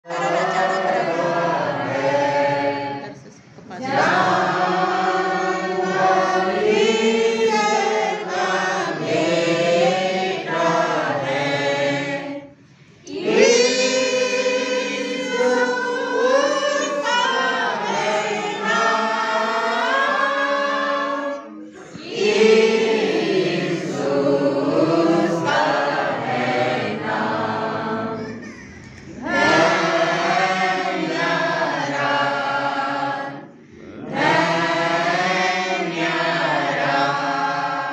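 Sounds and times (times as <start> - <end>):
congregation singing a hymn: 0.0 - 37.9.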